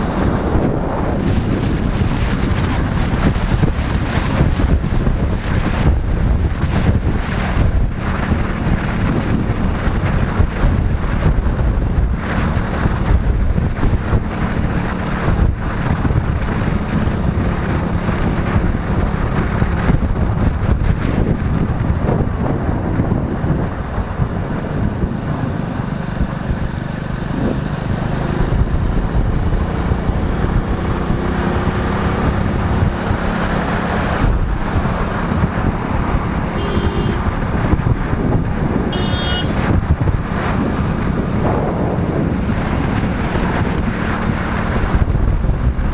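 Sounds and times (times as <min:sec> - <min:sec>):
motorcycle engine: 0:00.0 - 0:45.9
road noise: 0:00.0 - 0:45.9
wind buffeting microphone: 0:00.0 - 0:45.9.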